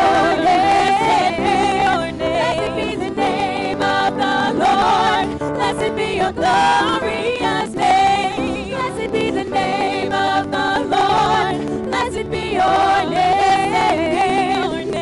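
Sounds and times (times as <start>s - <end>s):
instrumental accompaniment: 0.0s - 15.0s
women singing gospel: 0.0s - 15.0s.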